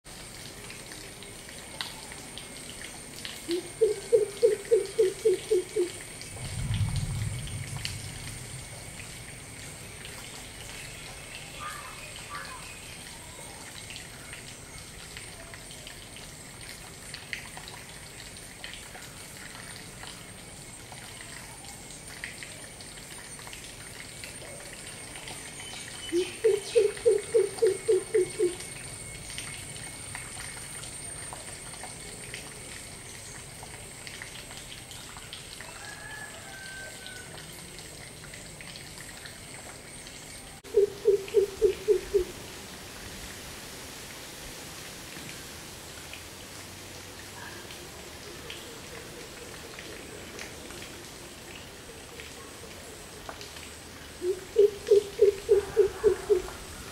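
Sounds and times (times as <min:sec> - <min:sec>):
steady hiss: 0:00.1 - 0:35.6, 0:37.5 - 0:56.9.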